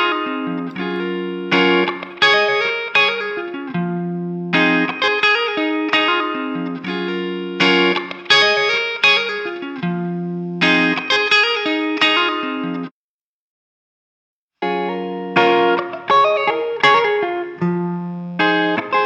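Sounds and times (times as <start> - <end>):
overdriven electric guitar: 0.0 - 12.9, 14.6 - 19.0.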